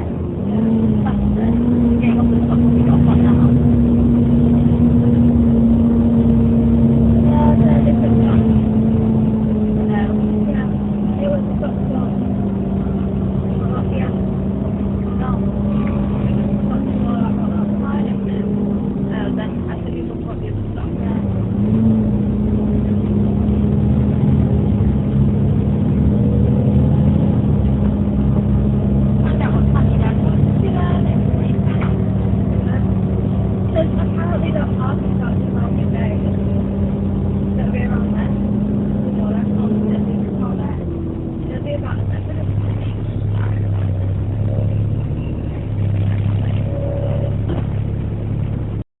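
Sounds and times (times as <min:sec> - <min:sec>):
bus diesel engine rumbling: 0:00.0 - 0:48.9.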